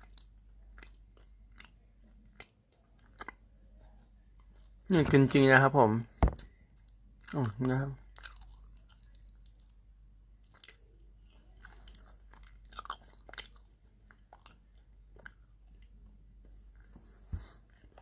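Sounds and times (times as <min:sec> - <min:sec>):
person chewing food: 0:00.0 - 0:05.3, 0:06.3 - 0:16.9.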